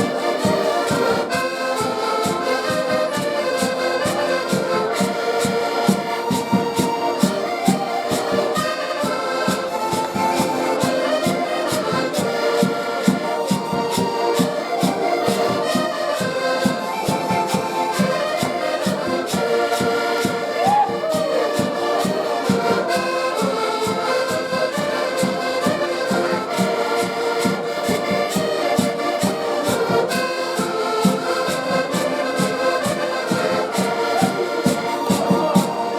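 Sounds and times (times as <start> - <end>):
live band playing popular music: 0.0 - 35.9.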